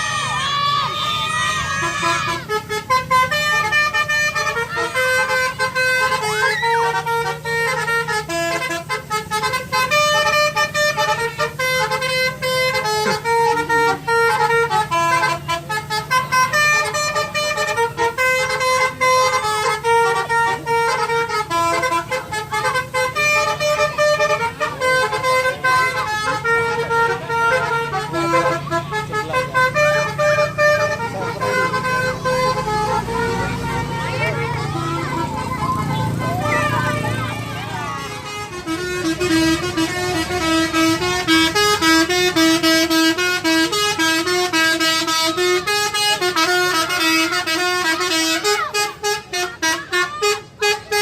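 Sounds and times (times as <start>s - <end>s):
multi-tone musical horn playing: 0.0s - 51.0s.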